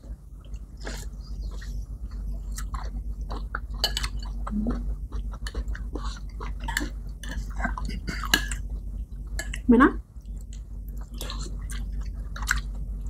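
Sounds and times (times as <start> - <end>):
people chewing and eating: 0.0 - 13.0.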